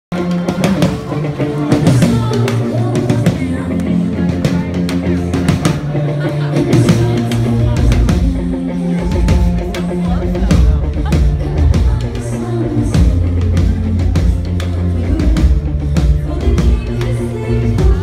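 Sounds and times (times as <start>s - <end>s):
drum kit beat: 0.1s - 18.0s
woman singing into microphone: 1.5s - 18.0s.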